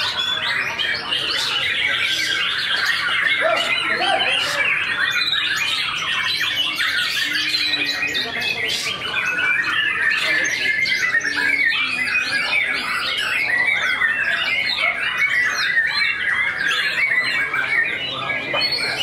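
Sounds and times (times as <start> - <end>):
bird singing: 0.0 - 19.0
other birds singing around: 0.0 - 19.0.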